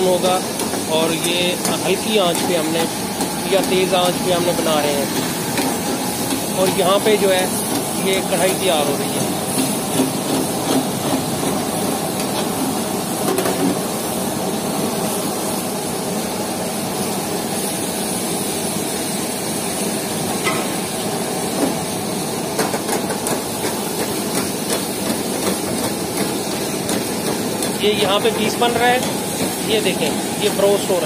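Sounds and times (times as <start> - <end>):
oil sizzling: 0.0 - 16.4, 17.0 - 31.0
gas burners roaring: 0.0 - 31.0.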